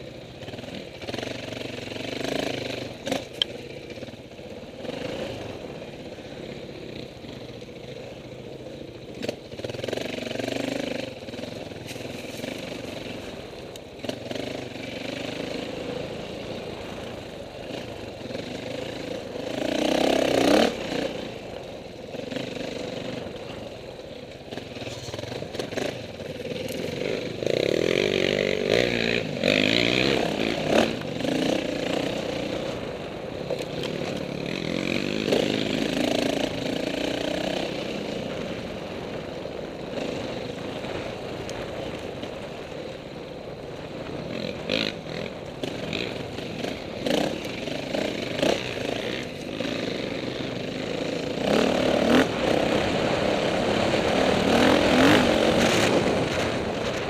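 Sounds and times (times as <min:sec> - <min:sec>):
dirt bike engine revving: 0:00.0 - 0:43.0, 0:43.7 - 0:57.0.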